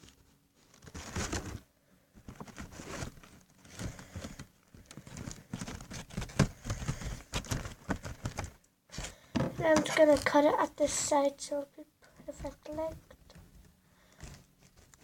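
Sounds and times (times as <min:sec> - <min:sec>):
paper and tape rustling: 0:00.0 - 0:11.0, 0:12.3 - 0:15.0.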